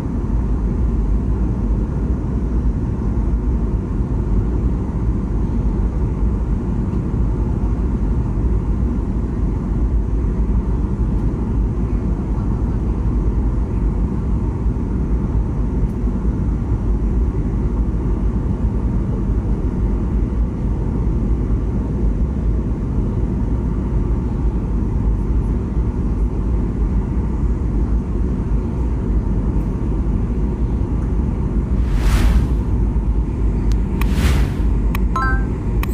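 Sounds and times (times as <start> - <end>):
airliner cabin engine rumble: 0.0 - 35.1.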